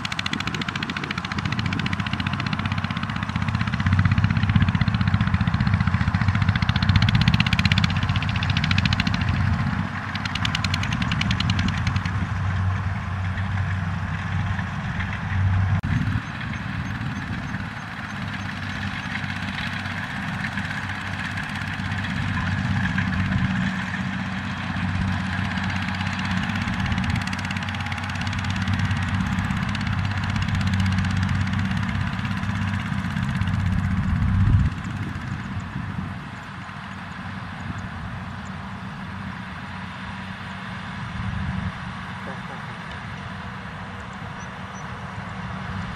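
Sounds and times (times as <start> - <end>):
walking tractor engine running: 0.0 - 45.9.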